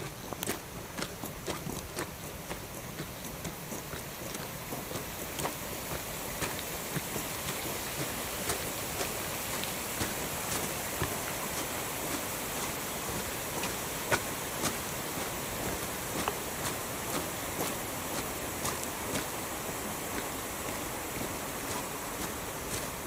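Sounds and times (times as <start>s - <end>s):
flowing water rushing: 0.0s - 23.0s
footsteps clicking: 0.0s - 23.0s.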